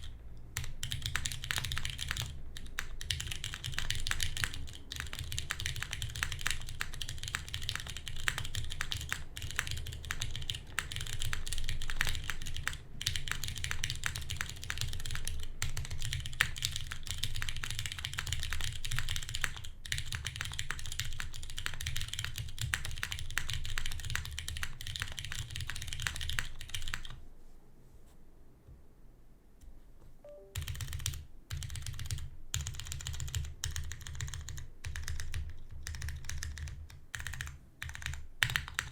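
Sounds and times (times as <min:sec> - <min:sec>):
fast typing on mechanical keyboard: 0:00.0 - 0:27.2, 0:30.6 - 0:38.9.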